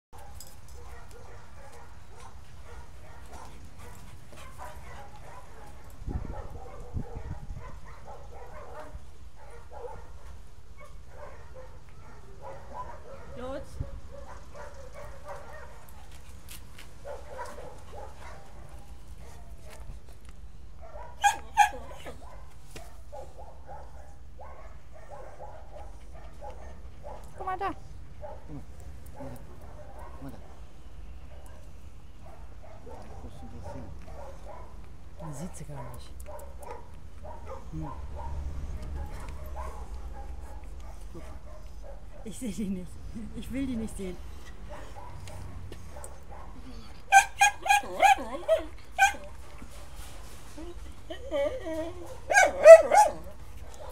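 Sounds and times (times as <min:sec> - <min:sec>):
dog barking: 0:00.2 - 0:16.0, 0:17.0 - 0:19.9, 0:20.8 - 0:28.6, 0:29.2 - 0:30.7, 0:31.3 - 0:42.3, 0:44.7 - 0:49.6, 0:52.1 - 0:53.9.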